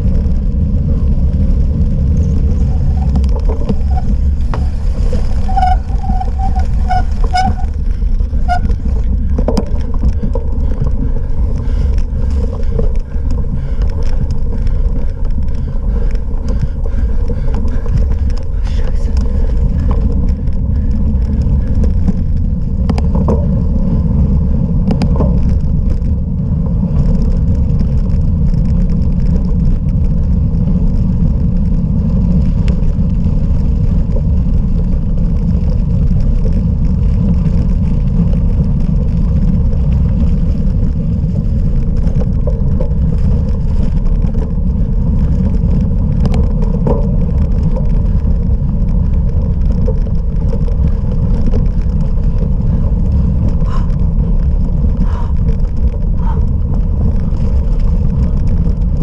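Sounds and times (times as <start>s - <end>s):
bicycle rumbling over rough ground: 0.0s - 59.0s.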